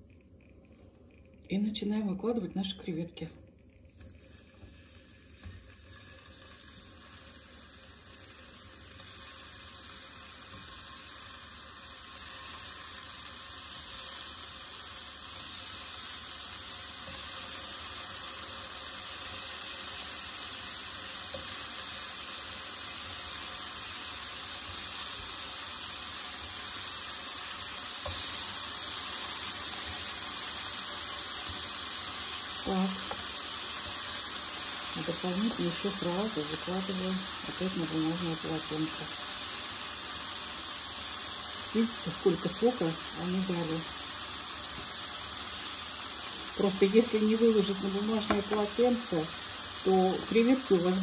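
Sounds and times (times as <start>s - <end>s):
shrimp sizzling in butter: 3.6s - 51.0s.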